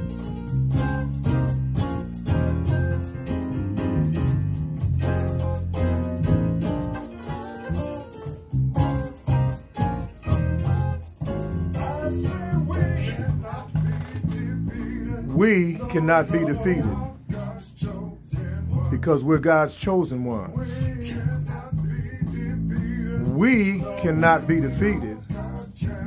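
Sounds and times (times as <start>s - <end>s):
electronic keyboard music with beat: 0.0s - 19.0s, 20.8s - 26.0s.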